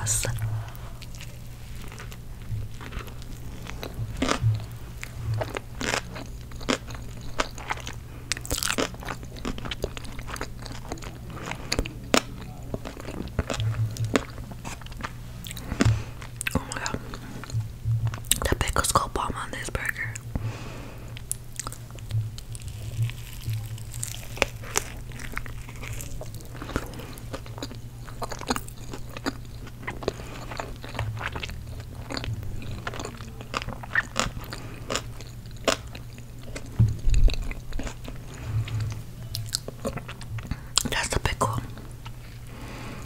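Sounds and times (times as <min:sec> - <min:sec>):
chewing and crunching food: 0:00.0 - 0:43.0.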